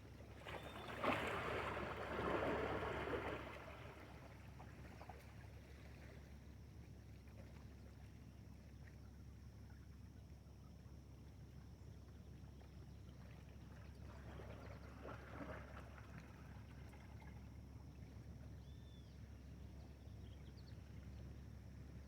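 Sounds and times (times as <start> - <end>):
faint water sounds: 0.0 - 22.0.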